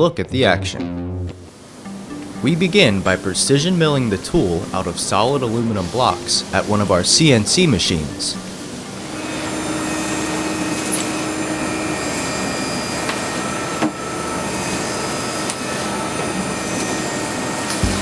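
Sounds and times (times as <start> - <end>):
thin whining tones: 1.5 - 18.0
milling machine cutting metal: 1.6 - 18.0.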